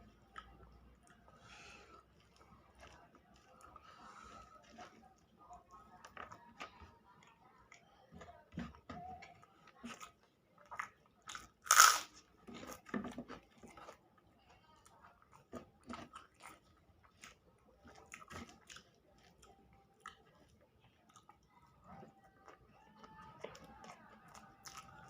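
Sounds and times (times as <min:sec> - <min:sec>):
person chewing and smacking: 0:00.0 - 0:01.4, 0:02.0 - 0:03.8, 0:04.5 - 0:25.0.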